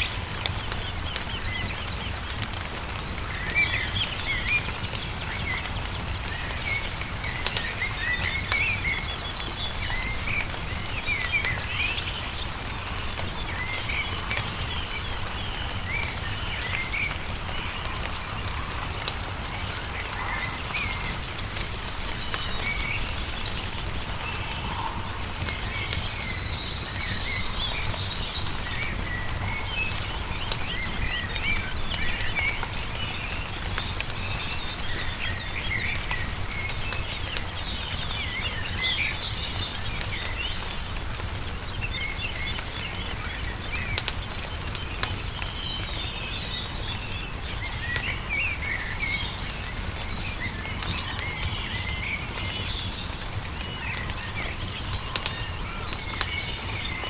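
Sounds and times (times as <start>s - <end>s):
songbirds chirping: 0.0s - 57.0s
wood fire crackling: 0.0s - 57.0s.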